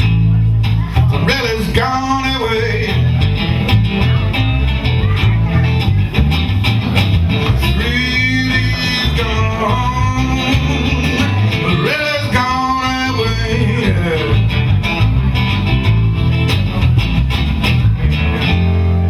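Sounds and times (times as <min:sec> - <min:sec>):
bass and drums beat: 0:00.0 - 0:19.0
bending lead guitar notes: 0:00.0 - 0:19.0.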